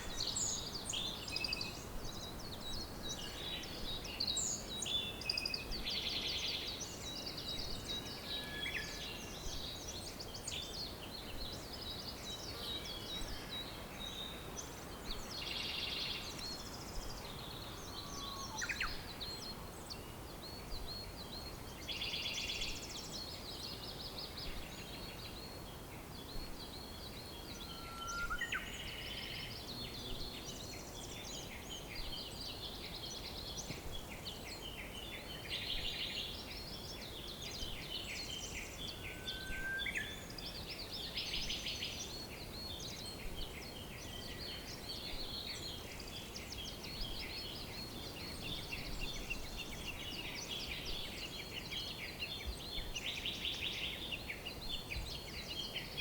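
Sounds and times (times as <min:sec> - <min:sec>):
birds chirping and trilling: 0:00.0 - 0:25.6, 0:26.2 - 0:56.0
low steady hiss: 0:00.0 - 0:56.0.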